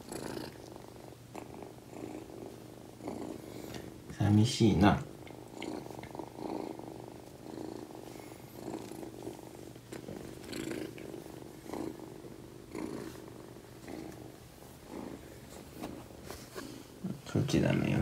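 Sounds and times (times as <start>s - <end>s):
kitten purring: 0.0s - 18.0s.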